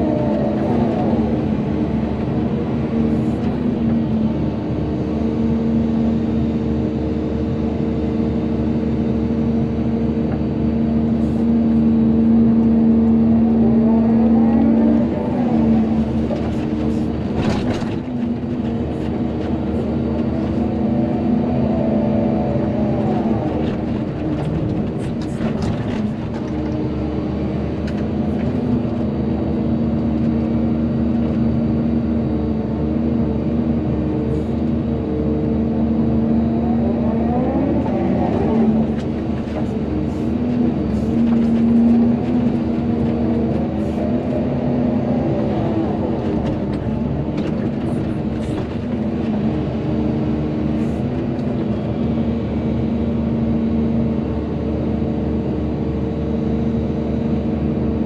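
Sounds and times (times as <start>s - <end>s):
excavator diesel engine whining: 0.0s - 58.0s.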